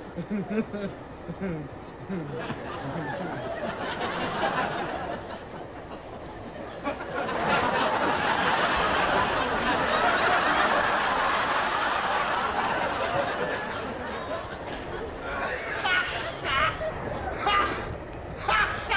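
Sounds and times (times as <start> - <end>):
studio audience laughing: 0.0 - 18.9.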